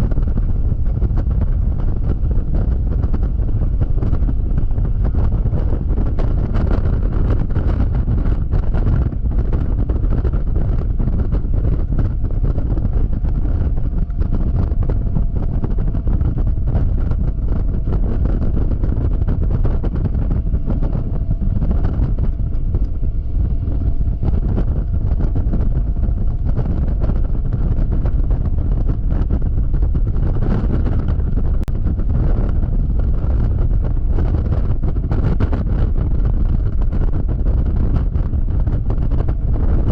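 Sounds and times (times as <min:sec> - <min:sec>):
faint whine: 0:00.0 - 0:39.9
wind buffeting microphone: 0:00.0 - 0:39.9.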